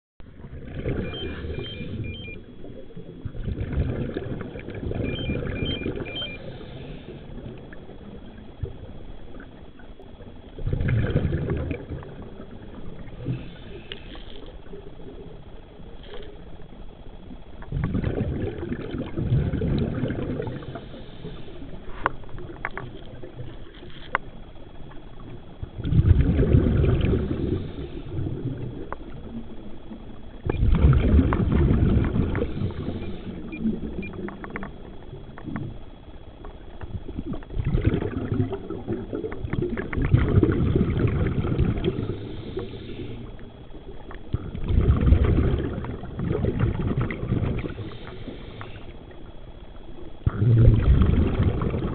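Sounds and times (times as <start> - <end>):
exhaled bubbles underwater: 0.2 - 51.9.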